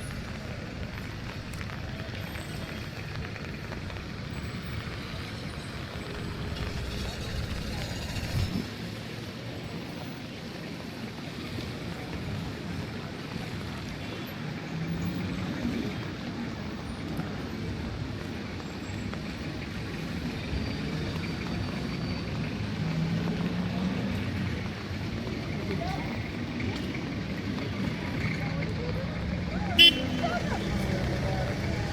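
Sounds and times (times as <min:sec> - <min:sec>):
hum of passing vehicles: 0:00.0 - 0:13.8, 0:14.6 - 0:31.9.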